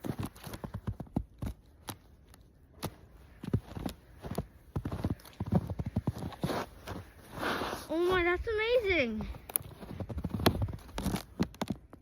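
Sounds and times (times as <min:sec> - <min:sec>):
footsteps on ice: 0:00.0 - 0:12.0.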